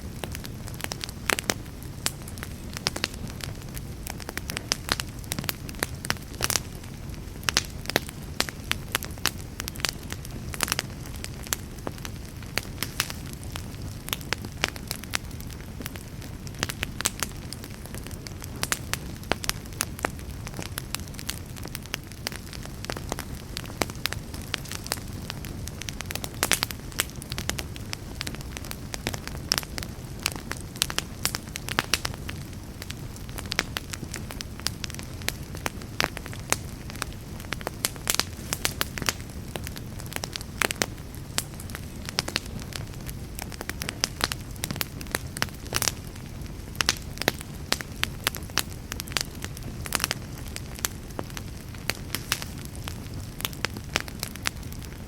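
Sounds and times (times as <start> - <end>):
fireplace fire crackling: 0.0 - 55.0.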